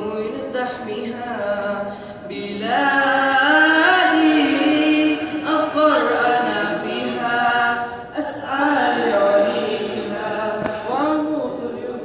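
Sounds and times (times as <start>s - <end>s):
boys singing into a microphone: 2.3s - 12.0s.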